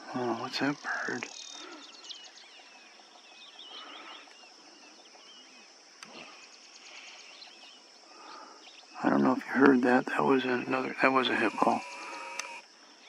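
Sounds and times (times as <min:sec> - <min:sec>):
high insect drone: 0:00.0 - 0:13.0
small birds chirping: 0:00.0 - 0:13.0.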